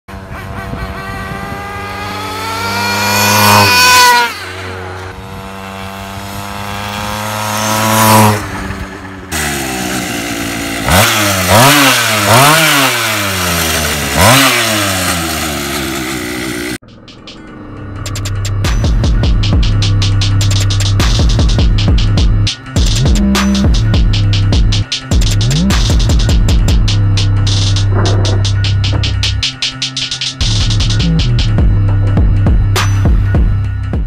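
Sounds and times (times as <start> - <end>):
small scooter engine revving: 0.1 - 31.3.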